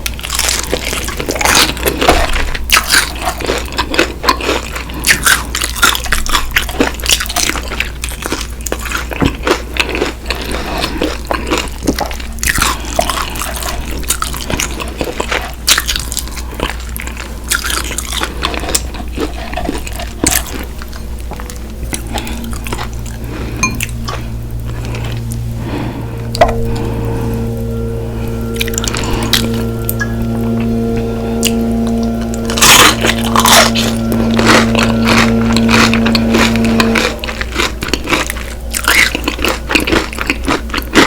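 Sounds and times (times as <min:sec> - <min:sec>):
crunchy bites and chewing: 0:00.0 - 0:25.4, 0:32.6 - 0:41.0
steady low hum: 0:00.0 - 0:41.0.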